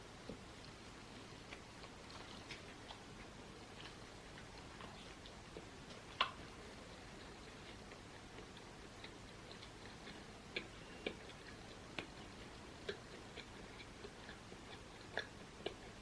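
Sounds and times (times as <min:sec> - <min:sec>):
faint steady hiss: 0:00.0 - 0:16.0
mouth chewing food: 0:00.1 - 0:16.0.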